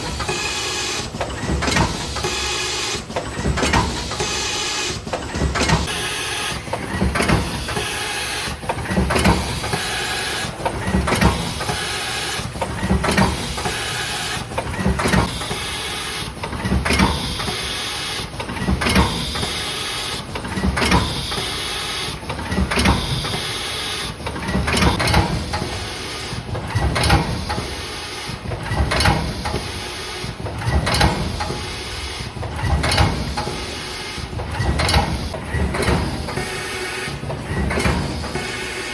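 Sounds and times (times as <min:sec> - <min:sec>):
filling machine knocks and clatter: 0:00.0 - 0:38.9.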